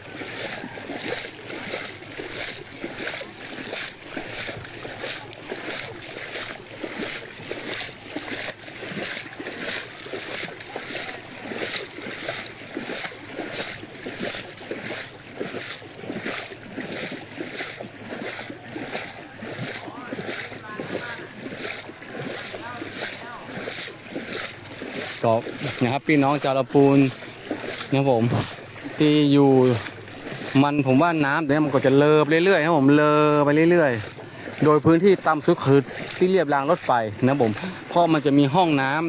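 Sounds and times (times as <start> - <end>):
footsteps wading through water: 0.0 - 39.0.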